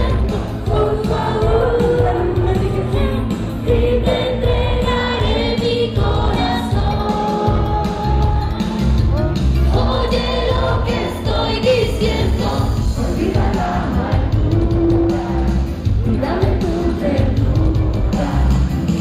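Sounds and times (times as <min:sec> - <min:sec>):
singers over pop-rock accompaniment: 0:00.0 - 0:19.0.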